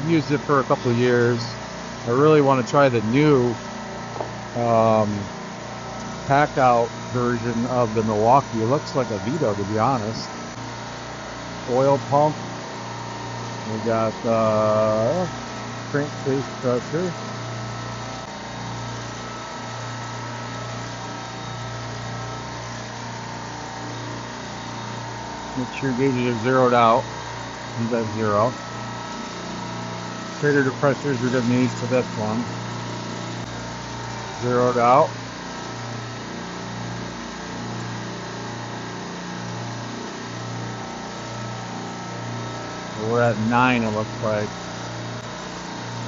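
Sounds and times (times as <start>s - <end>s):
compressor hiss: 0.0s - 46.0s
refrigeration compressor hum: 0.0s - 46.0s.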